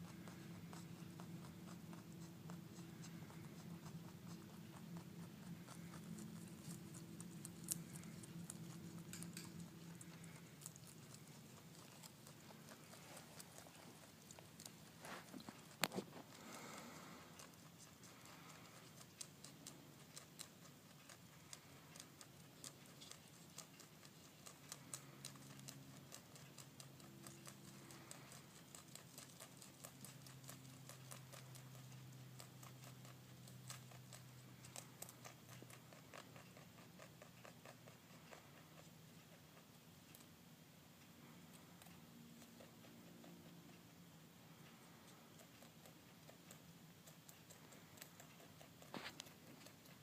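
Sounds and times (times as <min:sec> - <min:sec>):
rabbit chewing greens: 0:00.0 - 0:50.0.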